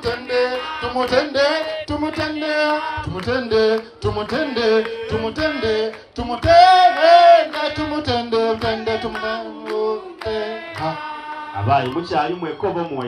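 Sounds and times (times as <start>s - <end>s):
hand claps: 0.0s - 11.0s, 11.7s - 13.0s
person singing over music: 0.0s - 12.0s.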